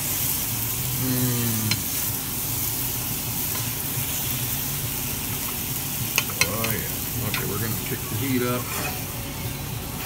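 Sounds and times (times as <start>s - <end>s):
meat and vegetables sizzling in pan: 0.0s - 10.0s.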